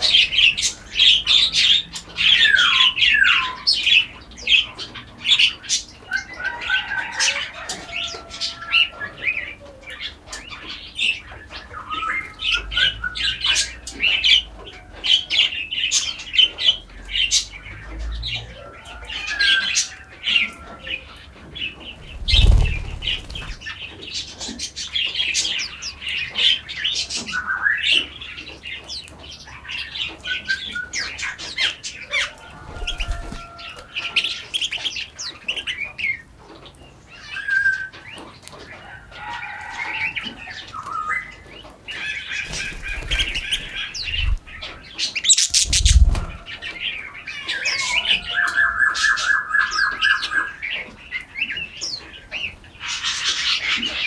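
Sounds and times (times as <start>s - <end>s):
songbirds chirping: 0.0s - 18.8s, 19.6s - 54.0s.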